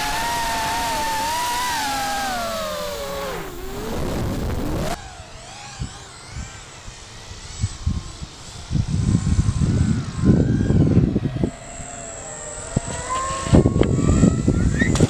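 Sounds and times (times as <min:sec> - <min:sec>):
wind rumble on microphone: 0:00.0 - 0:05.1, 0:07.3 - 0:15.0
electric motor and propeller whine: 0:00.0 - 0:15.0.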